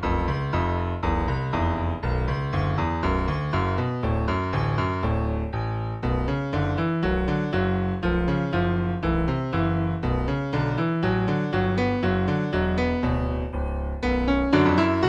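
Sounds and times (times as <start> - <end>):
piano music with bass: 0.0 - 15.0.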